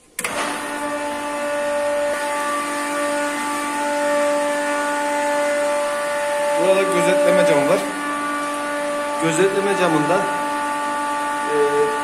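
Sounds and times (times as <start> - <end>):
pool pump motor humming: 0.0 - 12.0.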